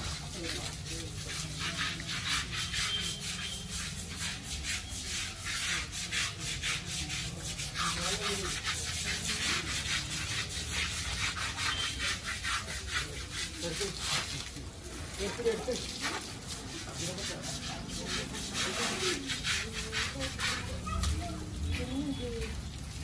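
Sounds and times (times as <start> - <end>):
rough rhythmic scrubbing: 0.0 - 22.6.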